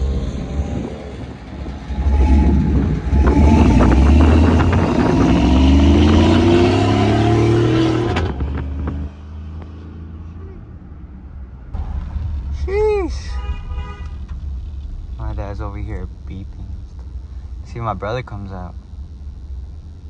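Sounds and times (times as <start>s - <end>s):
truck engine accelerating: 0.0s - 20.0s.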